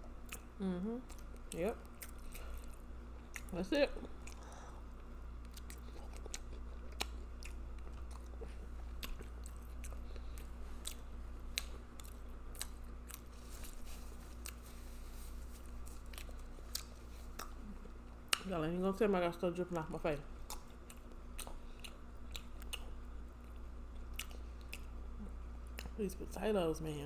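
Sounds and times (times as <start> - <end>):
close chewing with mouth smacks: 0.0 - 18.5, 20.4 - 26.0
low steady hum: 0.0 - 27.0.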